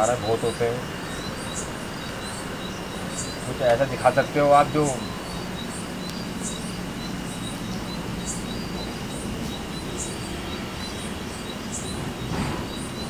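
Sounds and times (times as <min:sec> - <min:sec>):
insect chirping: 0:00.0 - 0:13.0
pulsing insect trill: 0:00.0 - 0:13.0.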